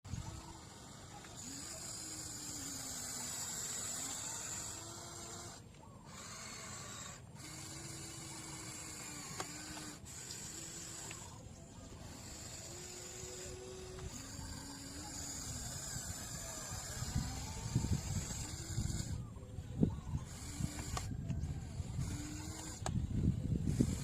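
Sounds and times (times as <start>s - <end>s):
small electric motors whining: 0.0s - 24.0s
motor tone sliding in pitch: 0.1s - 24.0s.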